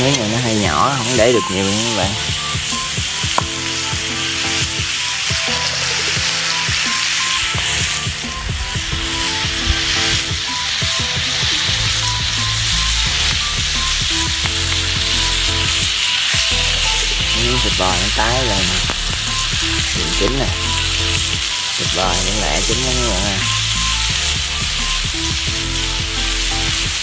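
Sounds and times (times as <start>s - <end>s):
background music: 0.0s - 27.0s
meat sizzling in hot oil: 0.0s - 27.0s.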